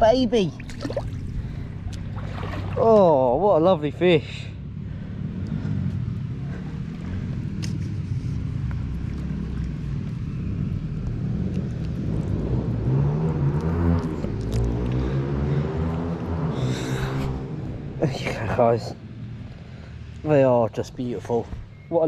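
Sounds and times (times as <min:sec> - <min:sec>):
low rumble on microphone: 0:00.0 - 0:18.4.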